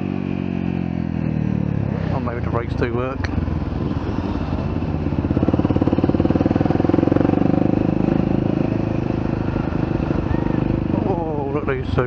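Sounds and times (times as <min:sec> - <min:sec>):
motorcycle engine under throttle: 0:00.0 - 0:12.0.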